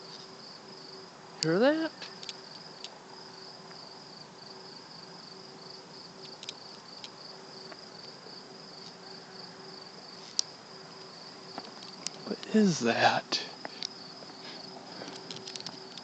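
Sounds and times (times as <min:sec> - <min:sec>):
insects trilling: 0:00.0 - 0:16.0
low steady hum: 0:00.0 - 0:16.0.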